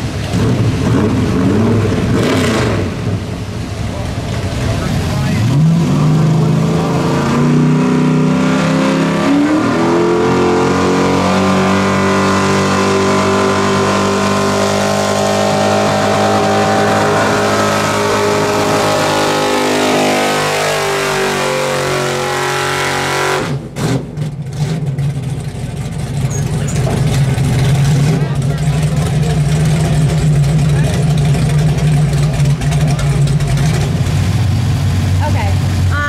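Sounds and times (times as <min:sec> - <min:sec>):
truck engine revving: 0:00.0 - 0:36.0.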